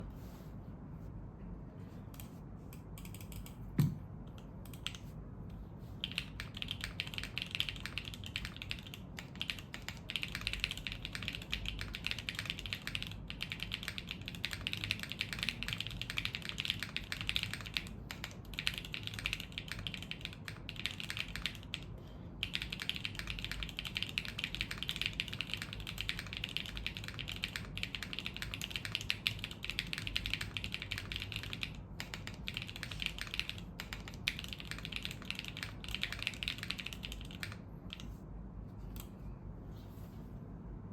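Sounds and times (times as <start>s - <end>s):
mechanical keyboard typing: 3.0s - 3.9s, 4.6s - 5.1s, 6.0s - 38.2s.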